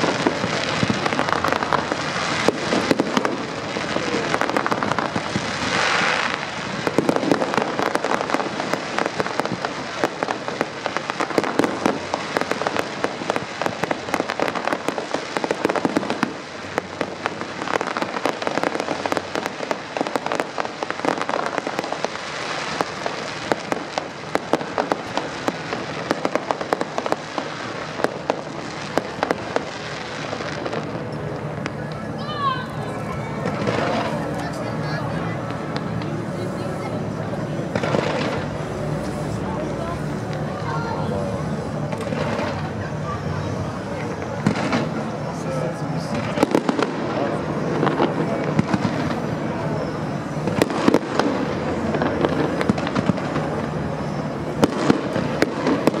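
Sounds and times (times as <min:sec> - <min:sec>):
crackling fireworks stars: 0:00.0 - 0:56.0
fireworks cracks and bangs: 0:00.0 - 0:56.0.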